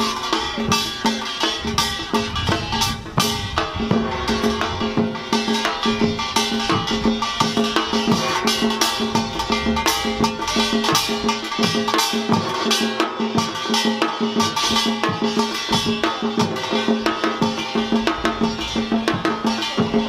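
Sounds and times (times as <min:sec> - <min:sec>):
large gong: 0:00.0 - 0:13.8, 0:14.7 - 0:20.0
drum strokes: 0:00.0 - 0:20.0
small gong clattering: 0:00.0 - 0:20.0.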